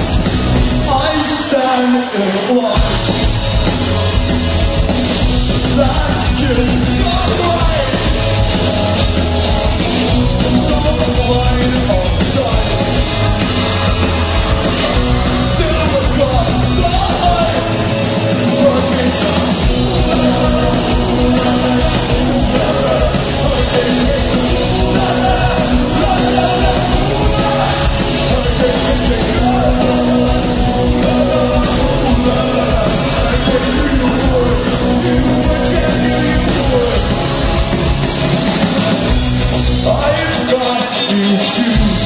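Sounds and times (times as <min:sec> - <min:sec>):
loud rock music with singing: 0:00.0 - 0:42.0.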